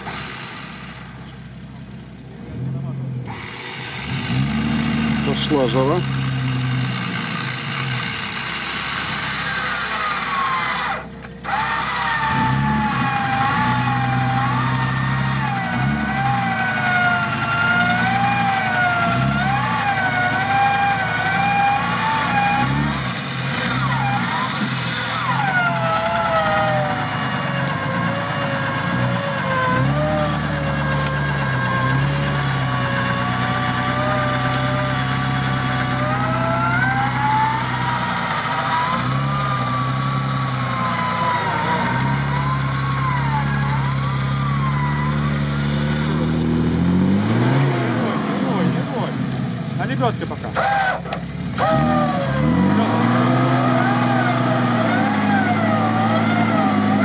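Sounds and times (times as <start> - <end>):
winch whining under load: 0.0 - 1.8, 3.2 - 57.0
car engine revving: 0.0 - 57.0.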